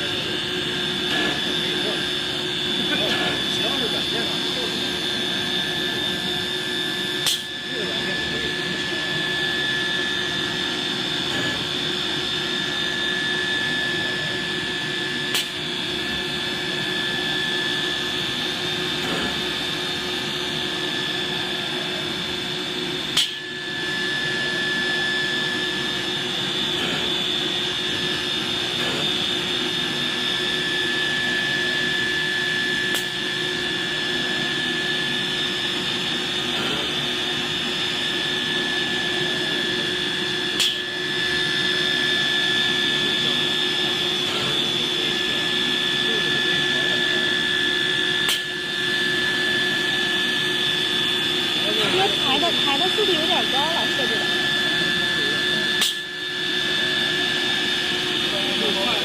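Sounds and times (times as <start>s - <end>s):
cnc router spindle whine: 0.0s - 59.0s.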